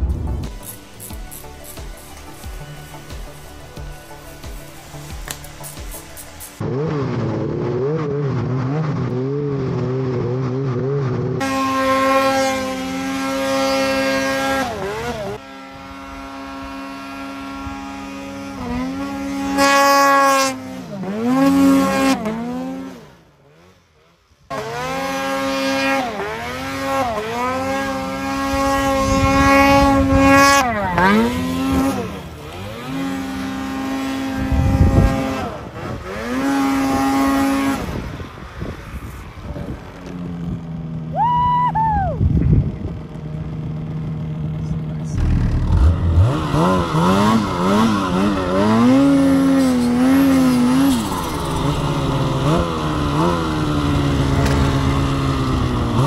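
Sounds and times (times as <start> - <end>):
snowmobile engines revving: 0.0 - 56.0.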